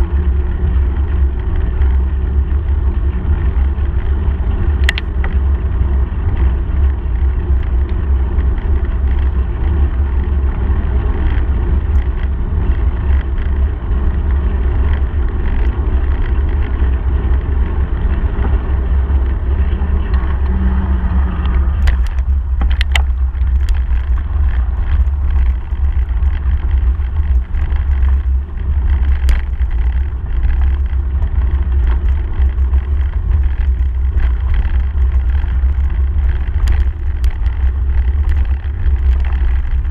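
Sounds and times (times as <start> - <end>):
bicycle tyre noise: 0.0 - 39.9
wind buffeting microphone: 0.0 - 39.9.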